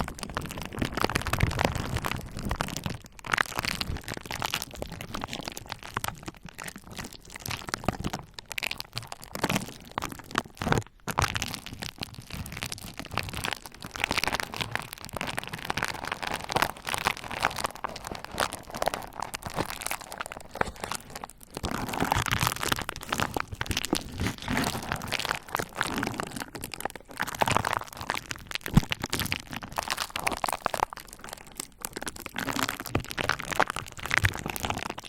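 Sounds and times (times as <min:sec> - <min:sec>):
bubble wrap crackling and popping: 0:00.0 - 0:35.0.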